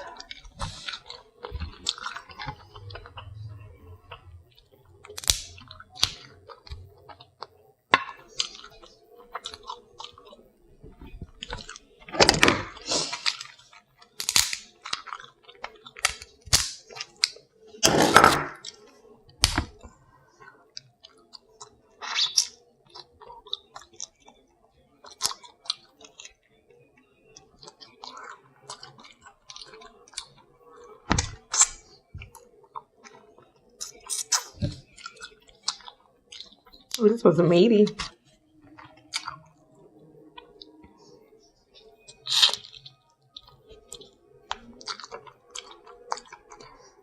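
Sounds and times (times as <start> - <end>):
wet chewing and lip-smacking: 0.0 - 17.8, 18.6 - 37.1, 37.9 - 47.0.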